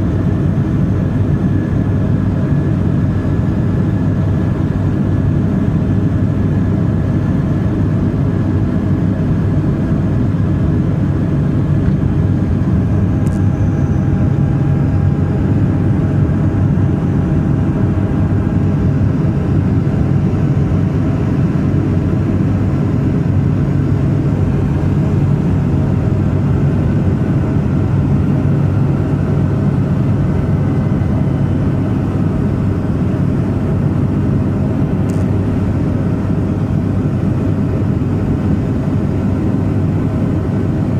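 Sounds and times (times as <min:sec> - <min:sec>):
turboprop engines running: 0:00.0 - 0:40.9.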